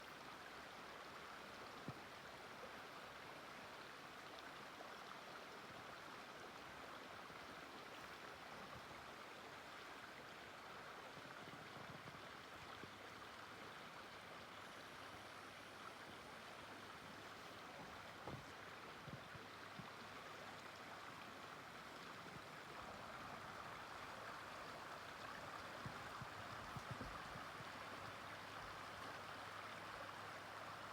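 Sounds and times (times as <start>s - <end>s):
running stream: 0.0s - 30.9s.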